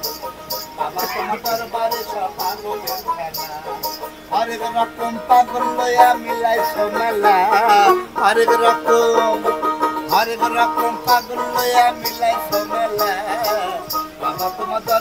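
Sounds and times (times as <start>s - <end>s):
person singing: 0.0s - 15.0s
plucked strings: 0.0s - 15.0s.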